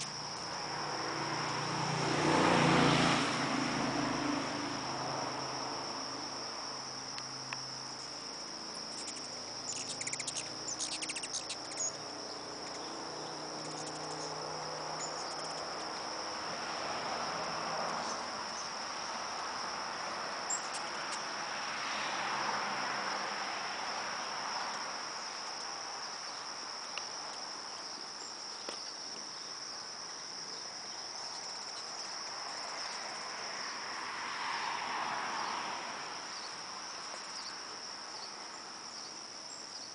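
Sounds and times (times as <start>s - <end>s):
shrill insect chorus: 0.0s - 39.9s.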